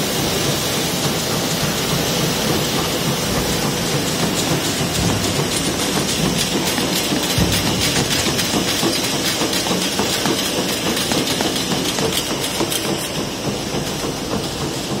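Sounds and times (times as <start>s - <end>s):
constant noisy hum: 0.0s - 15.0s
rapid mechanical clatter: 0.0s - 15.0s.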